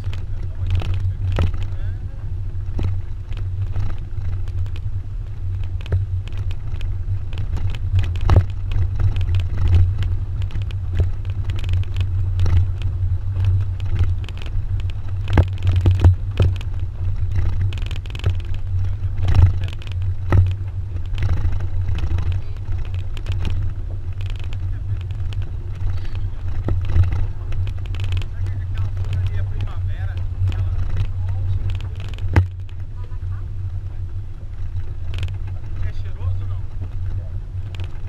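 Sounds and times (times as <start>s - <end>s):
sharp knocks and rattles: 0.0s - 33.0s, 33.6s - 38.0s
truck engine and road rumble: 0.0s - 38.0s.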